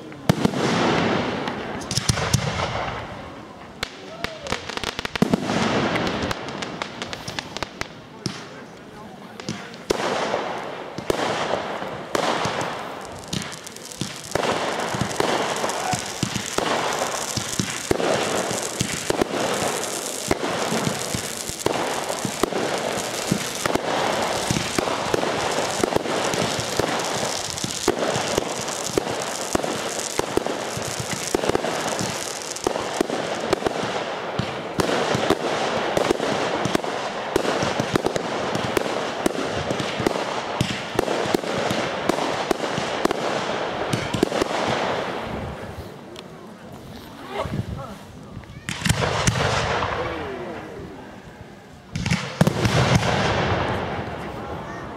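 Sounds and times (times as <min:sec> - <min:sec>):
fireworks popping and crackling: 0:00.0 - 0:54.9.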